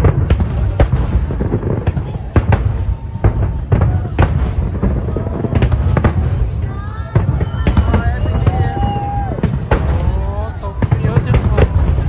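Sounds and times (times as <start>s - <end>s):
fireworks sharp bangs: 0.0s - 12.0s.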